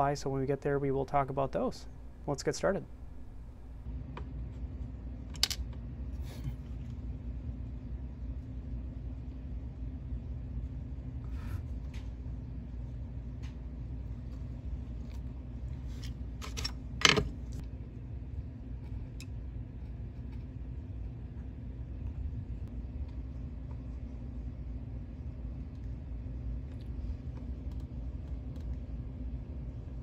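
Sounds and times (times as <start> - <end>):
low bench hum: 0.0 - 30.0.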